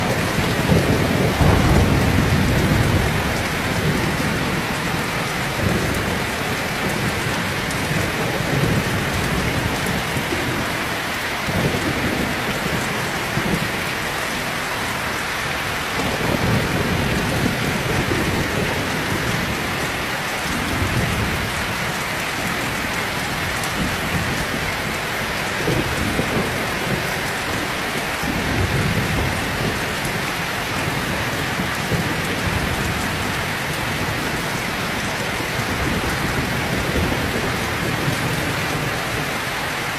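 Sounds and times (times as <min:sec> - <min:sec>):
low thunder rumbling: 0:00.0 - 0:10.8, 0:11.4 - 0:39.4
heavy rain pouring: 0:00.0 - 0:39.9.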